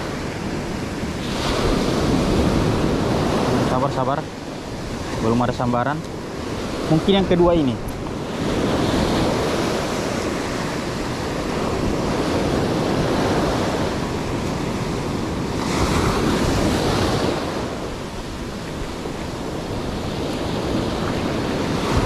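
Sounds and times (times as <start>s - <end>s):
sea surf breaking: 0.0s - 22.0s
wind buffeting microphone: 0.0s - 22.0s.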